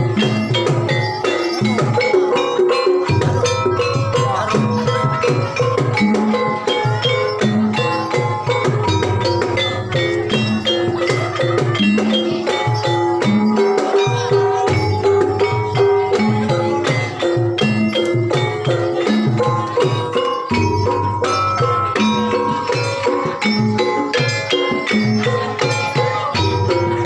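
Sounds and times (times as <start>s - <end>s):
drums: 0.0s - 27.0s
tuned mallet percussion ensemble: 0.0s - 27.0s.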